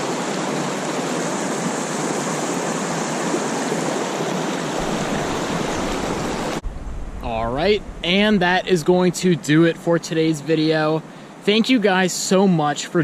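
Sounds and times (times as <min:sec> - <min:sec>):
flowing creek water: 0:00.0 - 0:13.0.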